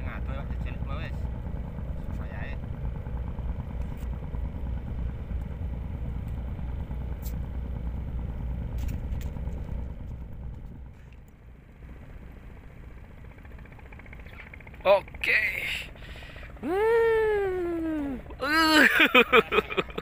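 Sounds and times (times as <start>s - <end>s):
motor engine rumbling: 0.0s - 20.0s.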